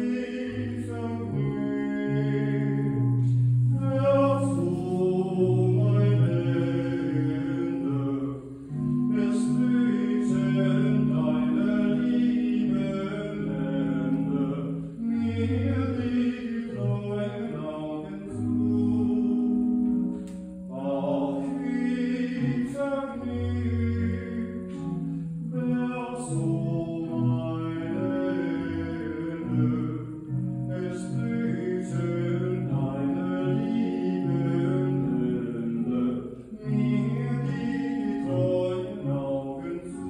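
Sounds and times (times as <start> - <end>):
people singing: 0.0 - 19.6, 20.7 - 30.1, 30.8 - 40.0
church organ chords: 0.0 - 40.0.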